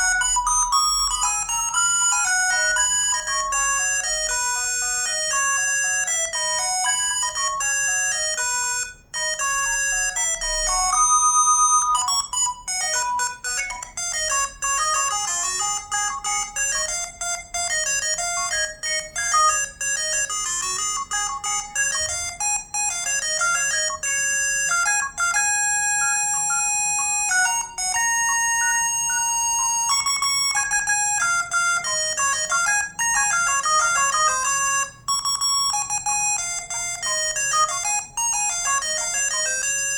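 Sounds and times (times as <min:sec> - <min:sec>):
mobile phone ringtone melody: 0:00.0 - 0:39.9.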